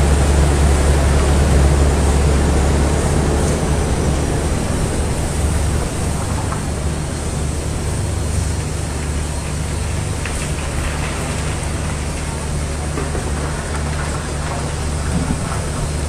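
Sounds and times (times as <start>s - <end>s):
machinery low hum: 0.0s - 16.0s
wet gravel and water rushing: 0.0s - 16.0s.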